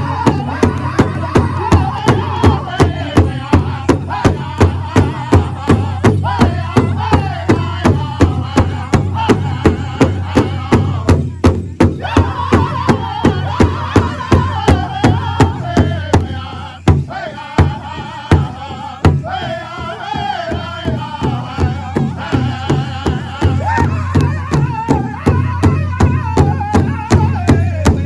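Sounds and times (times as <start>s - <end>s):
big drum beating: 0.0s - 28.0s
singers chanting in unison: 0.0s - 28.0s.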